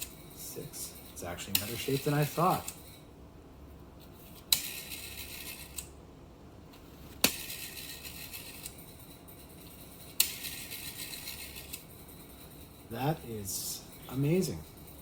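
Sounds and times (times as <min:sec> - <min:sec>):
rotary dial whirring: 0:00.0 - 0:03.1, 0:04.0 - 0:06.0, 0:06.6 - 0:15.0.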